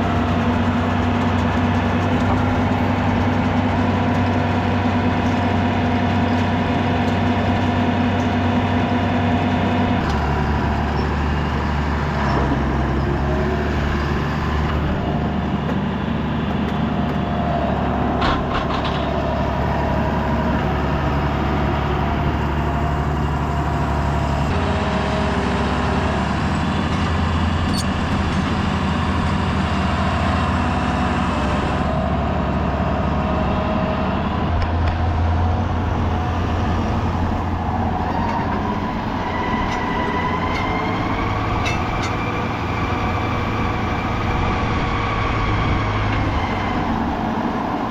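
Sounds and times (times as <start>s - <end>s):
tractor engine running under load: 0.0s - 47.9s.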